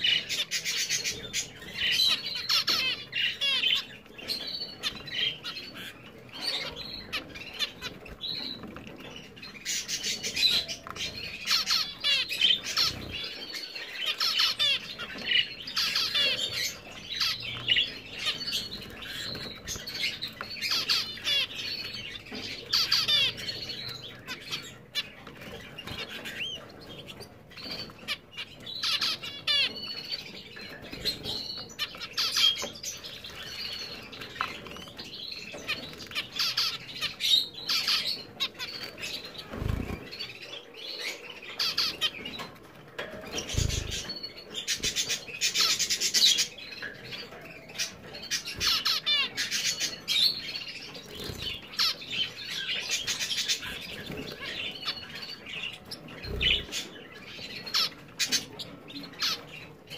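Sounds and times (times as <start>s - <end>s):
finches calling: 0.0s - 42.5s, 43.4s - 59.9s.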